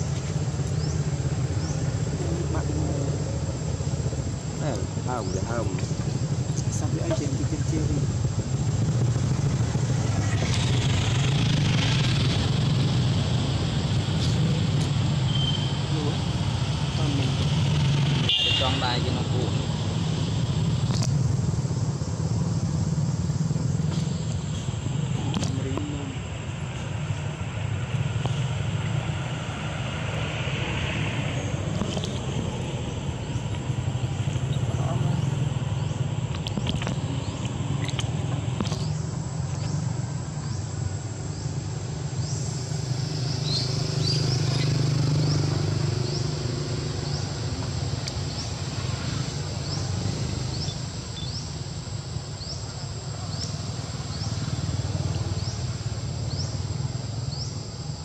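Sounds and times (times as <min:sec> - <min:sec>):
low rumble of distant traffic: 0:00.0 - 0:58.0.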